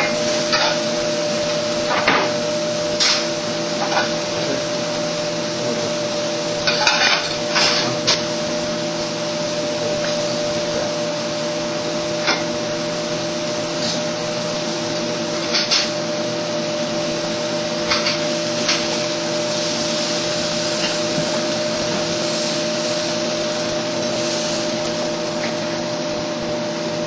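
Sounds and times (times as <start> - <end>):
steak sizzling on a grill: 0.0 - 27.0.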